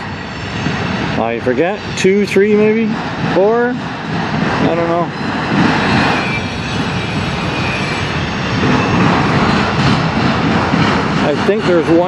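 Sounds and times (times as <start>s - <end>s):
freight train rumble: 0.0s - 12.0s.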